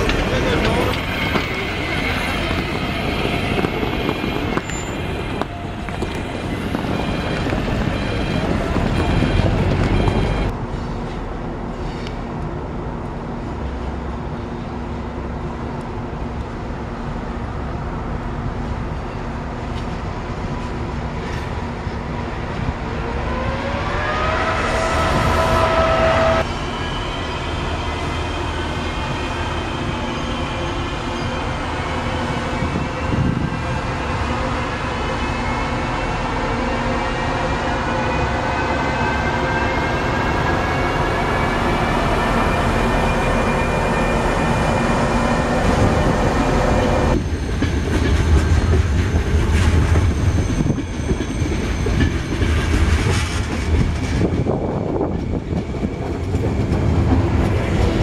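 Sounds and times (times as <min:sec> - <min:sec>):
electric locomotive whine: 0:00.0 - 0:58.0
train rolling over rails: 0:00.0 - 0:58.0
tram moving off: 0:00.0 - 0:58.0.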